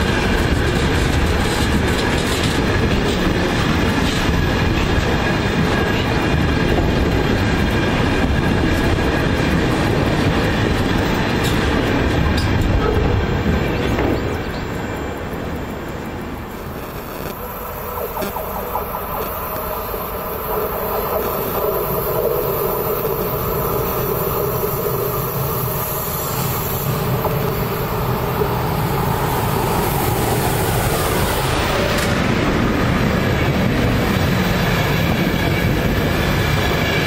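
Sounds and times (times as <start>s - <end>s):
electric locomotive hum: 0.0s - 37.0s
train wheels rumbling on rails: 0.0s - 37.0s.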